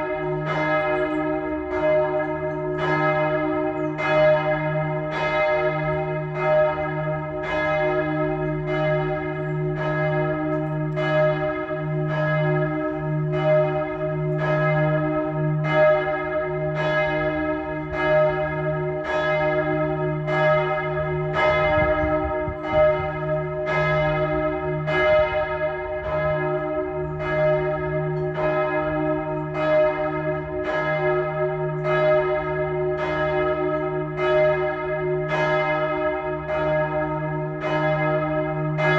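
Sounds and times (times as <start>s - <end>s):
swinging church bell ringing: 0.0s - 38.9s.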